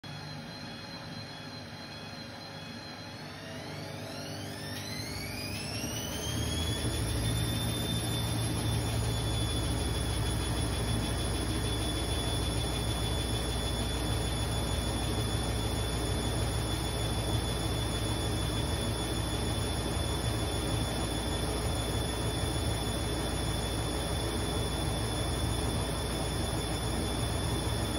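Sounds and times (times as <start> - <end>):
washing machine motor whine: 0.0 - 27.9.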